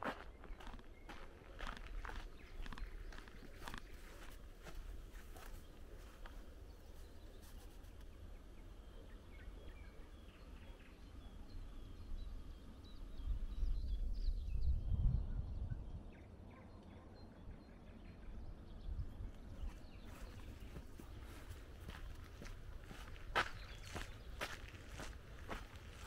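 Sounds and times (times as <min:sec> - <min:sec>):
faint bird chirps: 0:00.1 - 0:26.0.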